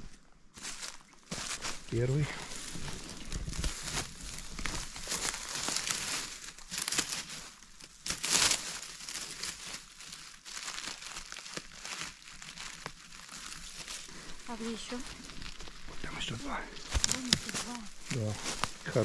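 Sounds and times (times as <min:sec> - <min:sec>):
leaf litter crunching underfoot: 0:00.0 - 0:19.0.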